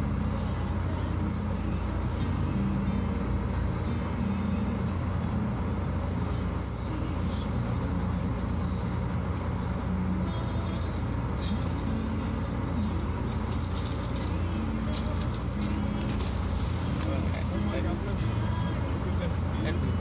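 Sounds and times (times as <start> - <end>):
engine idle rumble: 0.0 - 20.0.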